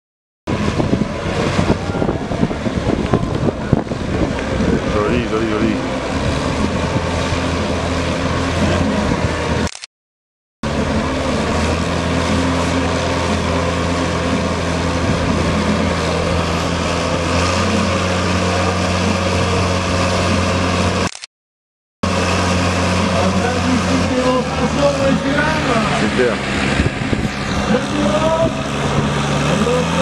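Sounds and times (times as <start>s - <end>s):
tractor engine under heavy load: 0.5s - 9.9s, 10.6s - 21.3s, 22.0s - 30.0s.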